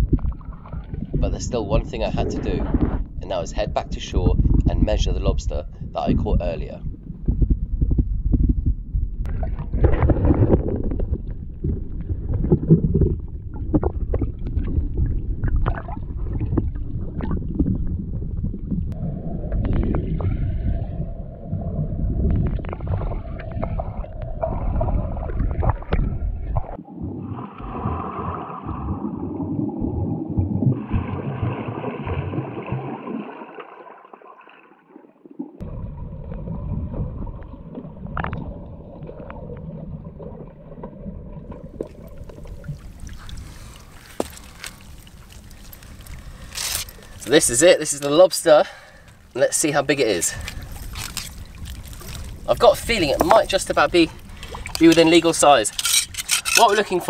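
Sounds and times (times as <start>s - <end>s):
water rushing and gurgling underwater: 0.0s - 47.8s, 48.5s - 57.0s.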